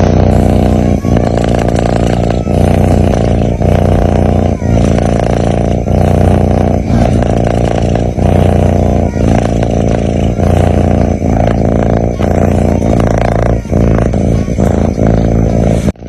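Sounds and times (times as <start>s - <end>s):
cat snoring: 0.0s - 16.0s.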